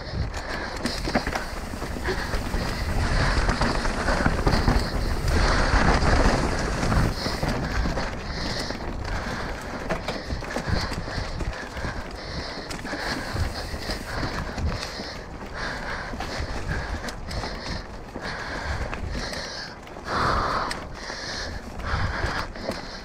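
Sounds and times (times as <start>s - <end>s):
wind on microphone: 0.0s - 19.3s
bike clattering over rocks: 0.1s - 21.0s.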